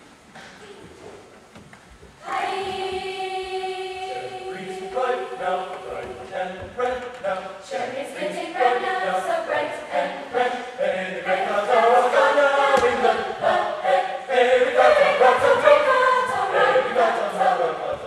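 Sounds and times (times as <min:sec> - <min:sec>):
choir singing in harmony: 0:02.2 - 0:18.0.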